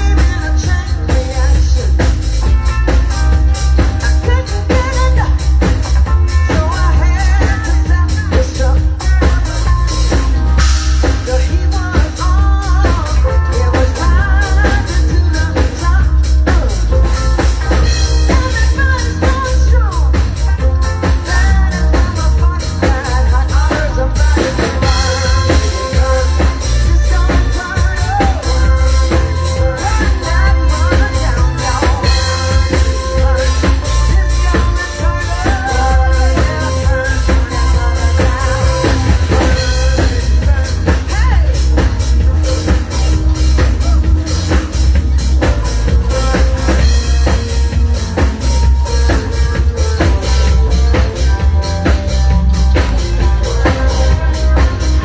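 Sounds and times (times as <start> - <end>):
band music: 0.0 - 55.0
drum kit beat: 0.0 - 55.0
heavy bass: 0.0 - 55.0.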